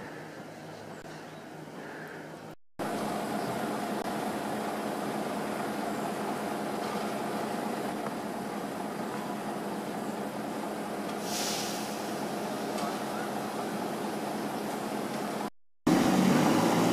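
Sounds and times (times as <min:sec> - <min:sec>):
garbage truck engine idling: 0:02.8 - 0:16.9.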